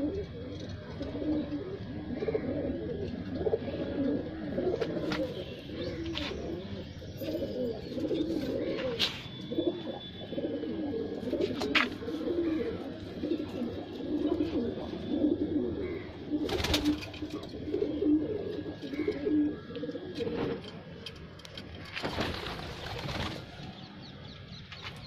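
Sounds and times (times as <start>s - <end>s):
pigeons cooing: 0.0s - 21.1s.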